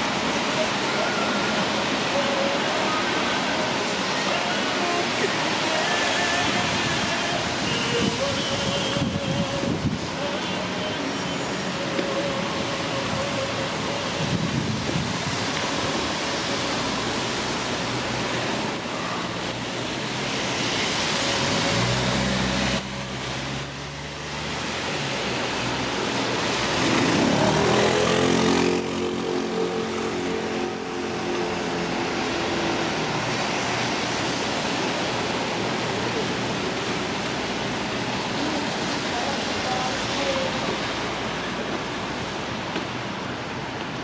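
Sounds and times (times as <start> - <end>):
rain hissing on wet street: 0.0 - 44.0
vehicles passing: 0.0 - 44.0.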